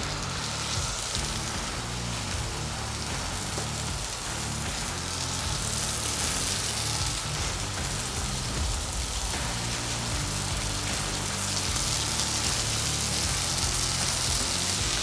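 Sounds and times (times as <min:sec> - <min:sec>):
oil sizzling on a griddle: 0:00.0 - 0:15.0.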